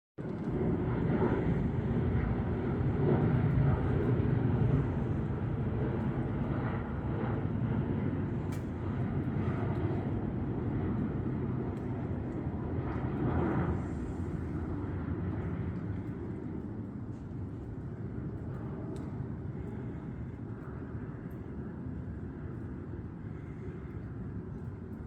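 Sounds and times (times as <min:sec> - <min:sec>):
jet engines rumbling: 0:00.2 - 0:25.0.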